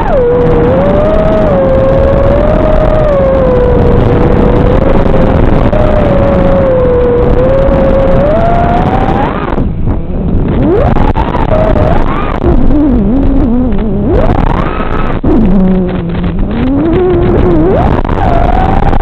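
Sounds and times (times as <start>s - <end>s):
drone motors whining: 0.0s - 19.0s
rush of air: 0.0s - 19.0s.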